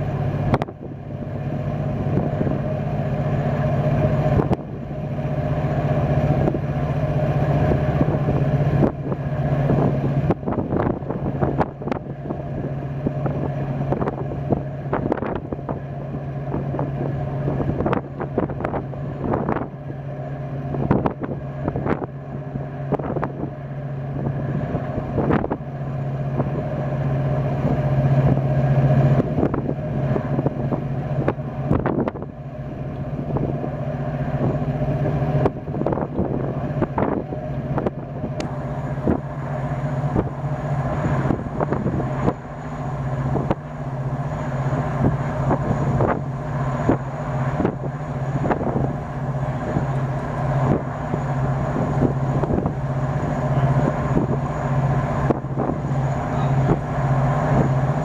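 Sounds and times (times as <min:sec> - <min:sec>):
marine diesel engines droning: 0:00.0 - 0:58.0
wind buffeting microphone: 0:00.0 - 0:58.0.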